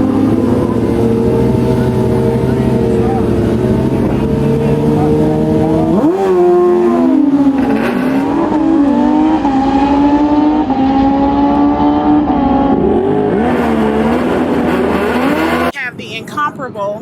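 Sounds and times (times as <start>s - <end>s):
race engine revving: 0.0s - 16.1s.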